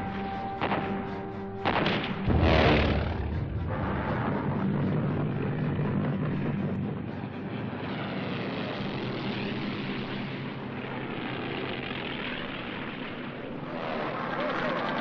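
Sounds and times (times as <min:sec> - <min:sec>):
propeller warplanes droning overhead: 0:00.0 - 0:15.0.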